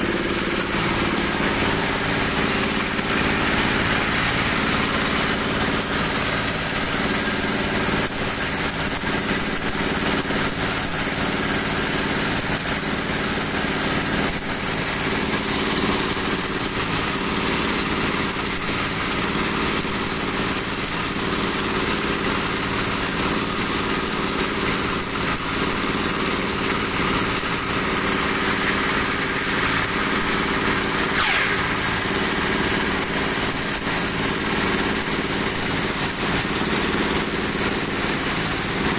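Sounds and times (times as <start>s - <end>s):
dowel machine motor humming: 0.0s - 38.9s.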